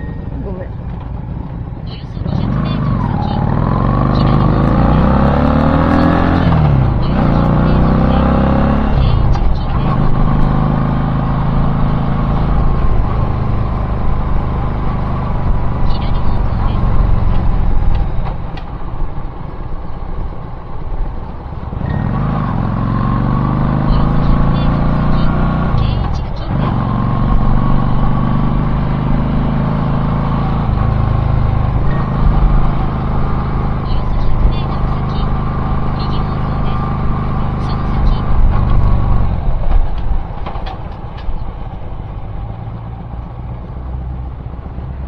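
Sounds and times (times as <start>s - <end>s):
car engine and tyre rumble: 0.0s - 45.0s
road noise: 0.0s - 45.0s.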